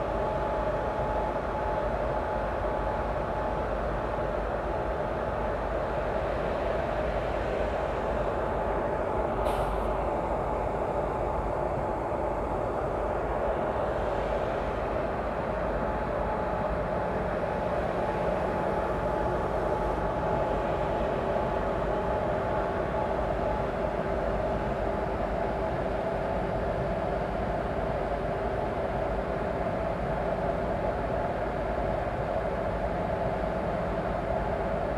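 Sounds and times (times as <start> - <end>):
electric locomotives idling hum: 0.0 - 34.9.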